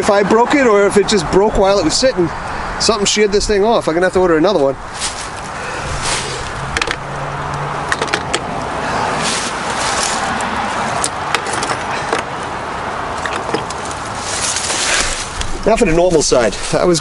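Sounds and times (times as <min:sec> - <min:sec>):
steady rushing background noise: 0:00.0 - 0:17.0.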